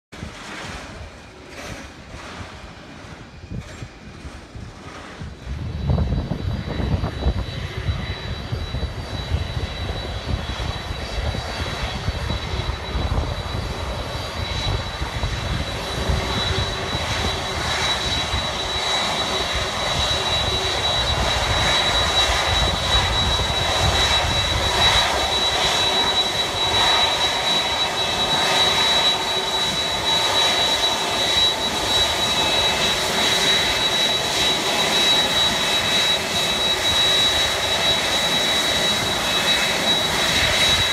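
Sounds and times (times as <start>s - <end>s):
jet engines whining at taxi: 0.2s - 40.9s.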